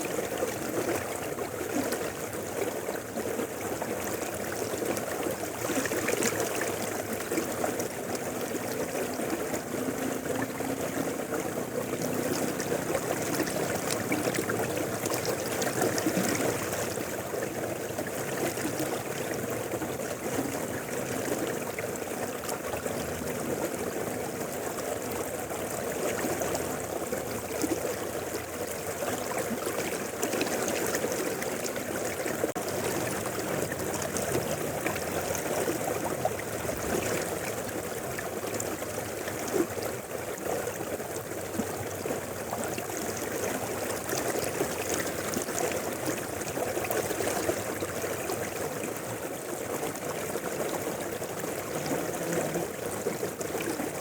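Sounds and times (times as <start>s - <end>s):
river flowing: 0.0s - 54.0s
small water splashes: 0.0s - 54.0s.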